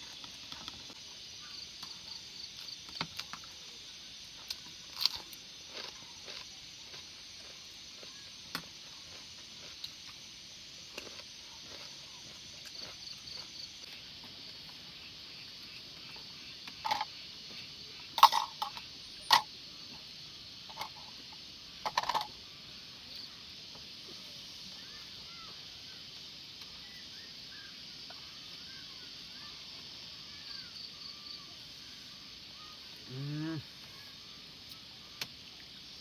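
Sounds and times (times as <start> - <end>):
chorus of night insects: 0.0 - 36.0.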